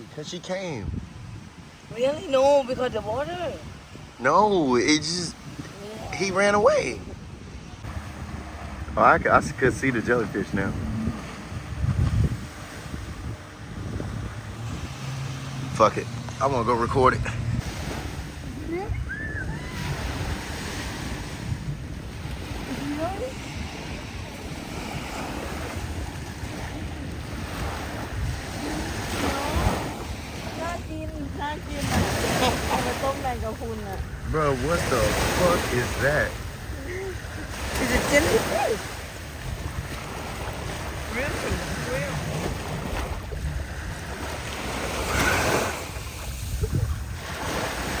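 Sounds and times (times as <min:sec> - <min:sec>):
sea surf washing onto beach: 0:00.0 - 0:48.0
wind buffeting microphone: 0:00.0 - 0:48.0.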